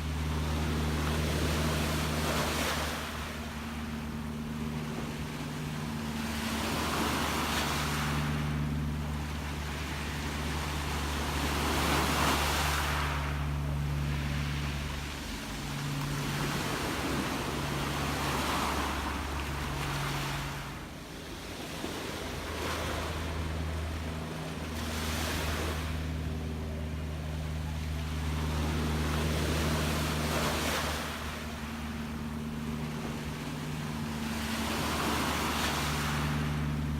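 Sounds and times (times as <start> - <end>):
sea waves washing ashore: 0.0 - 36.9
steady low hum: 0.0 - 36.9.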